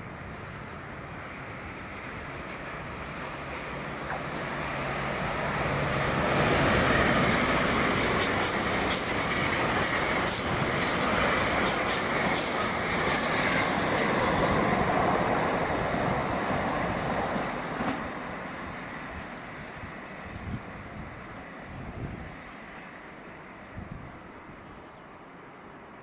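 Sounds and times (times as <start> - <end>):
passenger train passing: 0.0 - 26.0.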